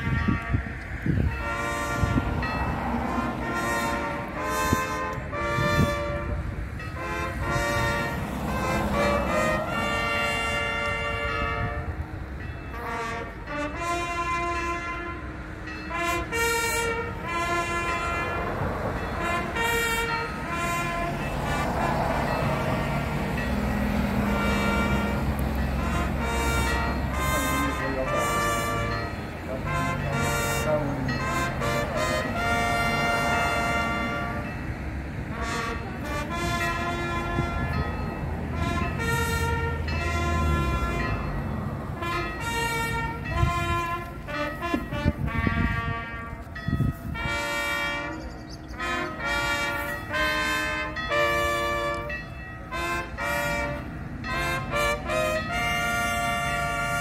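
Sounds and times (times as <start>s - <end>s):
brass fanfare: 0.0s - 57.0s
passing cars rumble: 0.0s - 57.0s.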